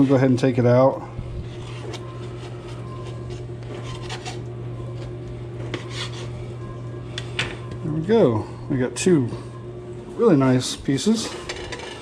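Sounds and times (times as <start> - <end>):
low hum: 1.0 - 12.0.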